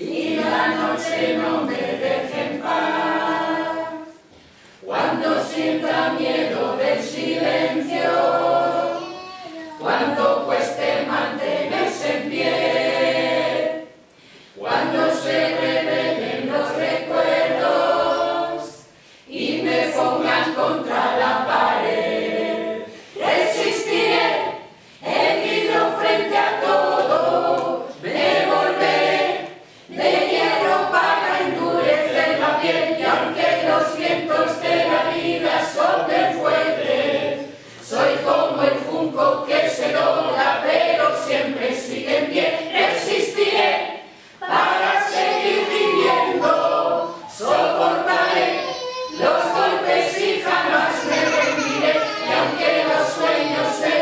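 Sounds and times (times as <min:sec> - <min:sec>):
group singing a cappella: 0:00.0 - 0:09.0, 0:09.7 - 0:54.0.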